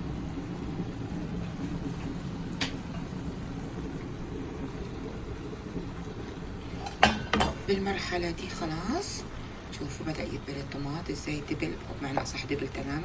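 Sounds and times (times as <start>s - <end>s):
sauce bubbling in a pan: 0.0s - 13.0s.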